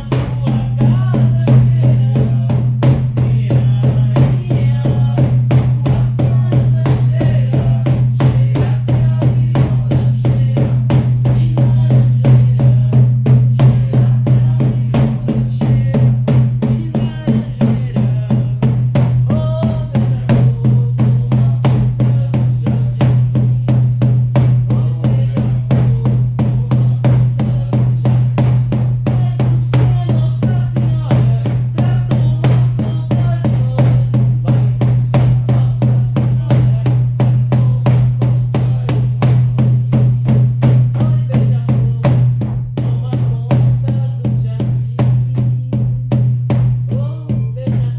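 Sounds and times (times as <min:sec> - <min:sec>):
frame drums beaten in fast pulse: 0:00.0 - 0:47.9.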